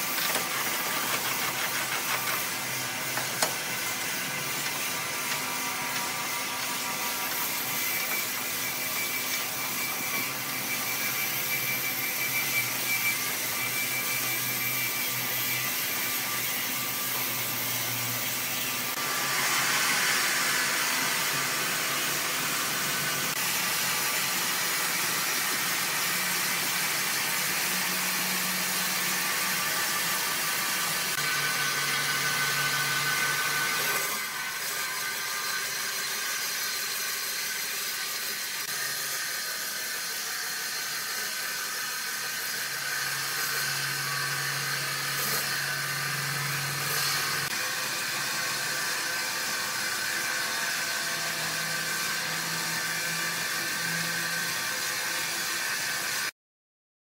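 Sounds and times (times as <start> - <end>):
band saw cutting log: 0.0 - 56.3.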